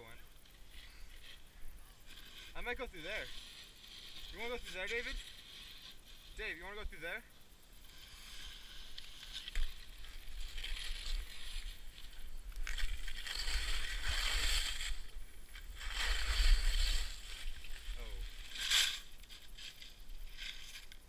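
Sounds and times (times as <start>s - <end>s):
skis scraping on icy snow: 0.6s - 7.2s, 7.8s - 21.0s.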